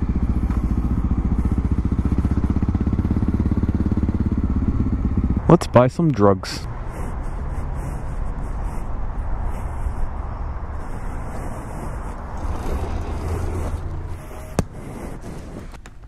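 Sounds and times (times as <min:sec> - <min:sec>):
outdoor rumble and hiss: 0:00.0 - 0:16.0.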